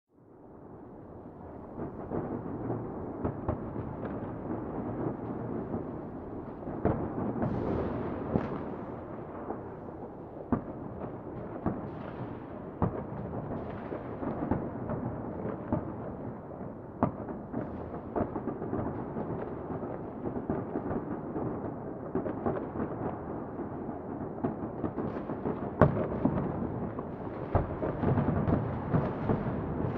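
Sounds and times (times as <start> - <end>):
rumble of distant fireworks: 0.1 - 29.9
fireworks cracking and popping: 2.2 - 29.9.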